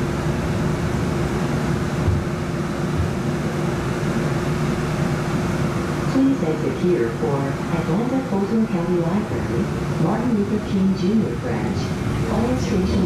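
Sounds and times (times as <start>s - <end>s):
constant hum: 0.0s - 13.0s
streetcar interior rumble: 0.0s - 13.0s.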